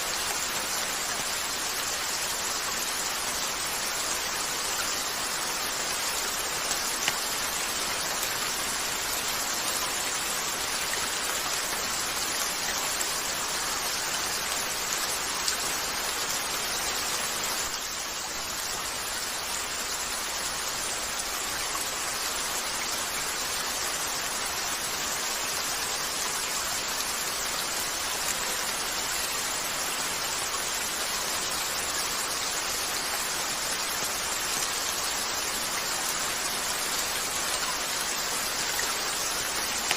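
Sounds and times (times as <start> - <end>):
rain against a window: 0.1 - 39.9.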